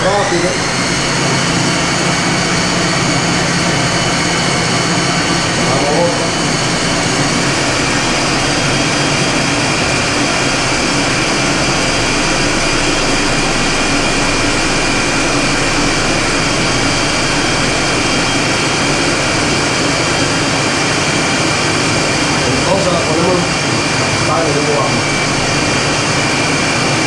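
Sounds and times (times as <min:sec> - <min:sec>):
blender motor whining: 0:00.0 - 0:27.0.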